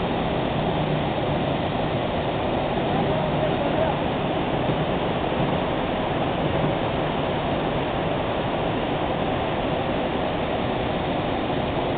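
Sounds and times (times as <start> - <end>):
stream rushing over rocks: 0.0 - 11.9.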